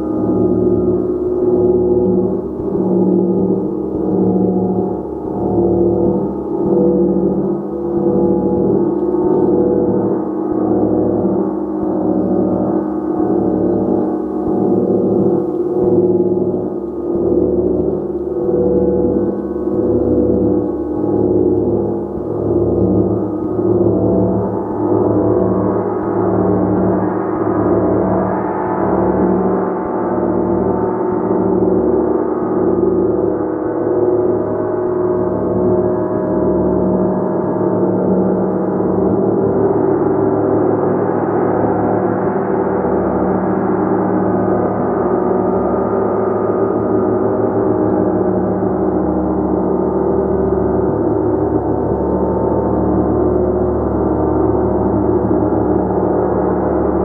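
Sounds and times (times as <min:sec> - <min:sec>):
large gong shimmering: 0:00.0 - 0:57.0.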